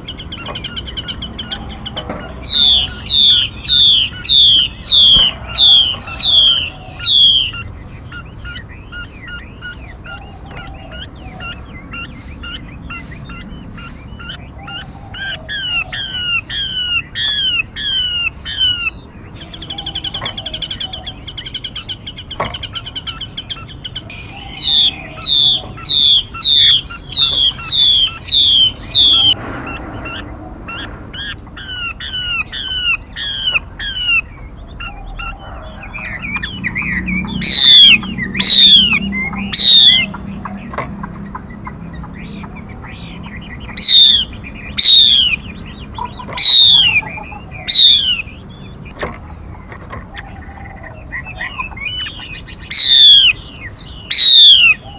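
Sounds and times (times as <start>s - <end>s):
songbird calling: 0.0s - 54.9s.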